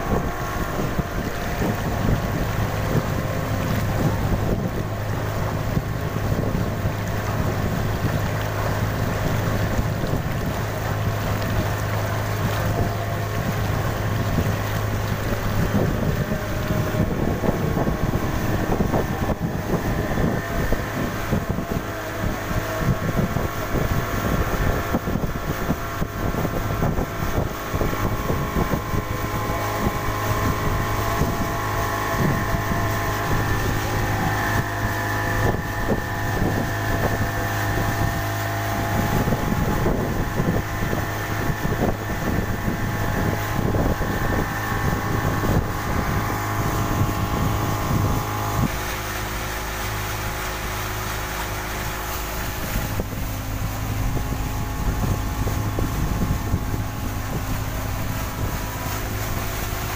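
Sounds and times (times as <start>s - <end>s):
outboard motor running: 0.0s - 59.9s
water rushing along hull: 0.0s - 59.9s
wind buffeting microphone: 0.0s - 59.9s.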